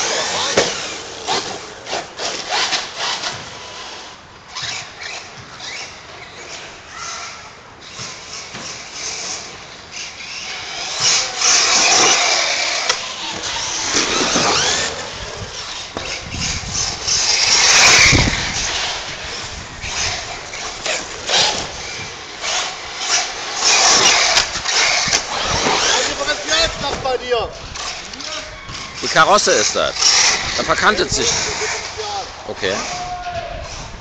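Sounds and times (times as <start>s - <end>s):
rc buggy motors revving: 0.0s - 34.0s.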